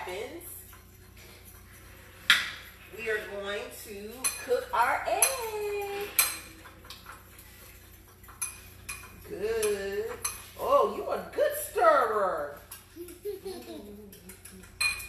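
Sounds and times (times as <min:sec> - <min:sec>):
utensils clinking against dishes: 0:00.0 - 0:15.0.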